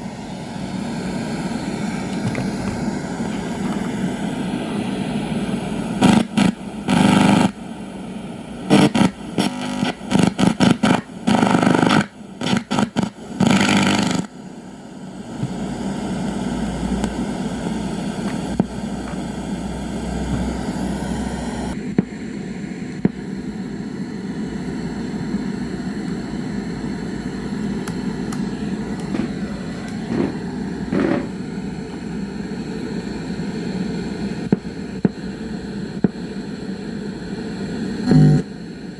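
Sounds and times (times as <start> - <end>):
radio static hiss and hum: 0.0 - 38.9
radio crackles and pops: 0.8 - 22.2, 22.9 - 23.8, 25.0 - 32.1, 34.2 - 36.4, 38.0 - 38.5.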